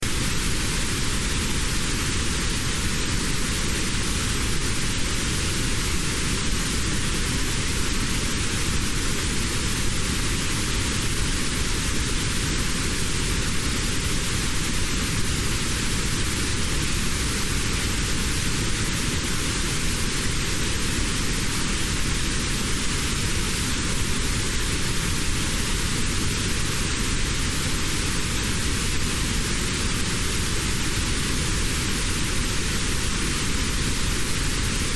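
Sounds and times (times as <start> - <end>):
synthetic noise hiss: 0.0 - 34.9.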